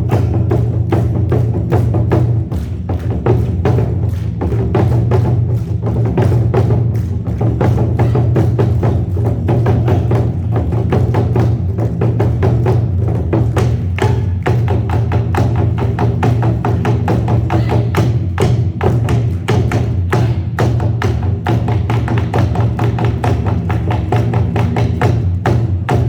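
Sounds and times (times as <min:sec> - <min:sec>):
barrel drums beaten fast: 0:00.0 - 0:26.0.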